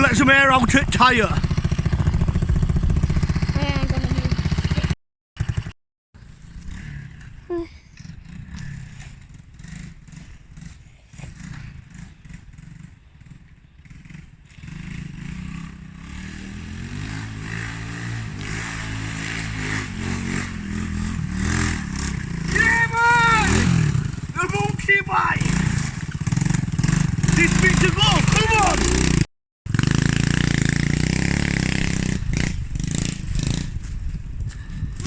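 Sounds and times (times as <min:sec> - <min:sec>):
small motorbike engine running: 0:00.6 - 0:35.0.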